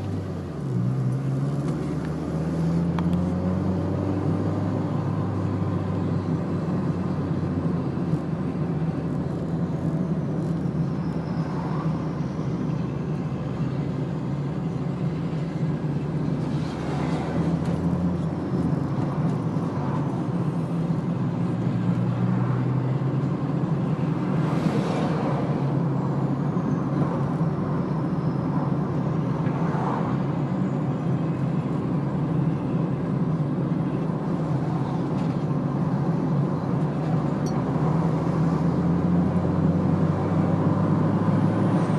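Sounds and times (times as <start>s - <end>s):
car cabin road and engine noise: 0.0s - 41.9s
passing traffic: 0.0s - 41.9s.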